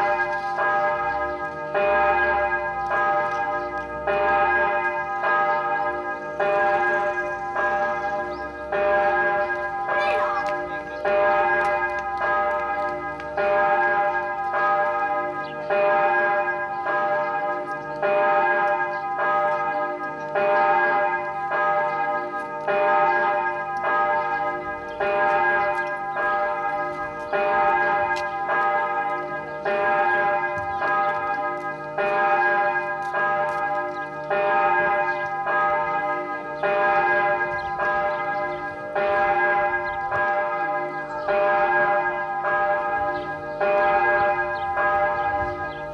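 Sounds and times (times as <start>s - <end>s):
church bells ringing: 0.0s - 45.9s.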